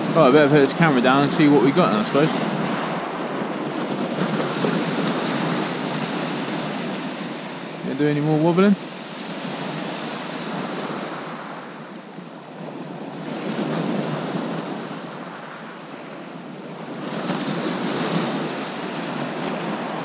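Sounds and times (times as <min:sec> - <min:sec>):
sea waves washing onto beach: 0:00.0 - 0:20.0.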